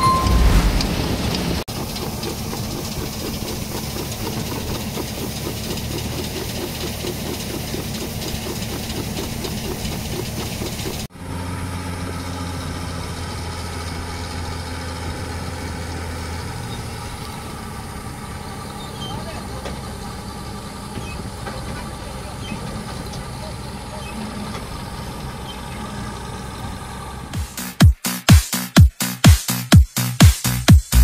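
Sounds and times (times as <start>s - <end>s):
combine harvester engine hum: 0.0s - 27.4s
combine harvester auger beating: 0.8s - 27.6s.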